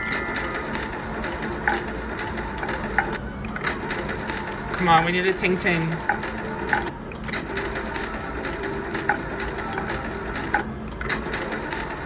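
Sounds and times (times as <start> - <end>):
slot machine reels spinning: 0.0 - 12.0.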